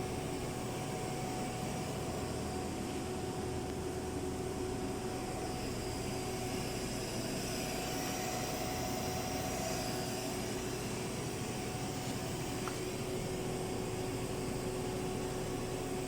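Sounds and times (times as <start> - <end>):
machining centre humming: 0.0 - 16.0.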